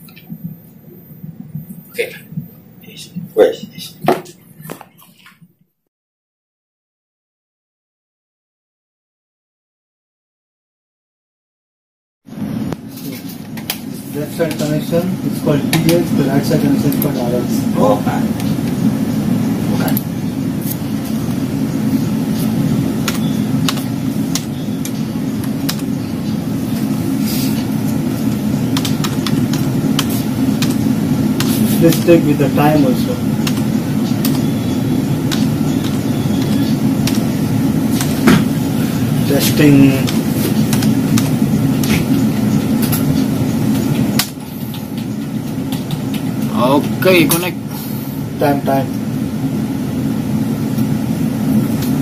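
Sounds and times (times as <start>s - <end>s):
low machine hum: 0.0s - 5.3s, 12.3s - 52.0s.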